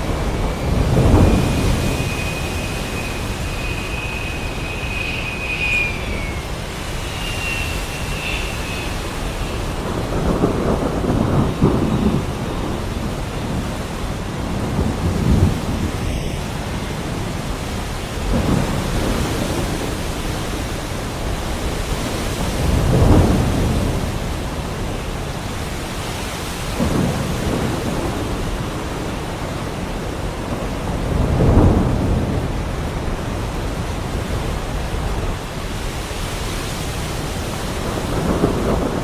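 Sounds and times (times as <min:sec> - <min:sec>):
low rolls of thunder: 0:00.0 - 0:26.0, 0:26.6 - 0:35.9, 0:36.8 - 0:39.0
heavy rain: 0:00.0 - 0:39.0.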